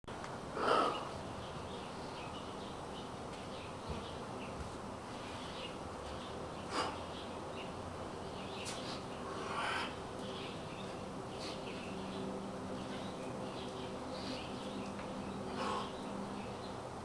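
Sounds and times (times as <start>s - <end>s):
steady background hiss: 0.1s - 17.0s.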